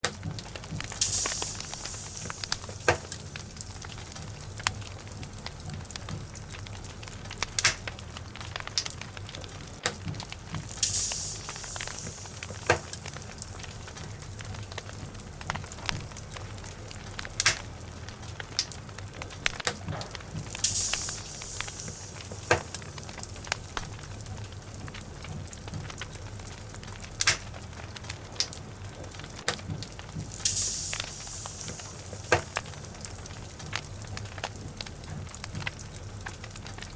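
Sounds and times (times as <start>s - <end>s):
wood logs crackling and popping: 0.0s - 36.9s
low rumble of flame: 0.1s - 36.9s
fire hissing: 0.2s - 36.9s.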